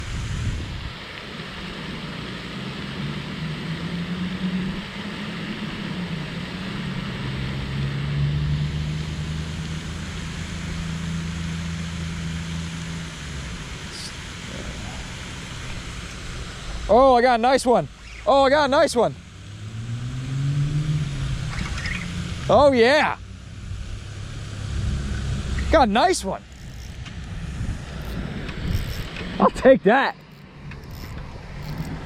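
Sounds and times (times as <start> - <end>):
low engine drone: 0.0 - 32.0
steady rushing noise: 0.0 - 32.0.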